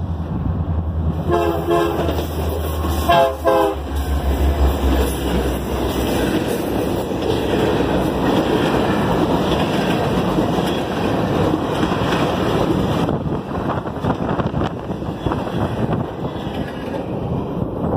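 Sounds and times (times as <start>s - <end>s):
steel wheels running on rails: 1.8s - 17.9s.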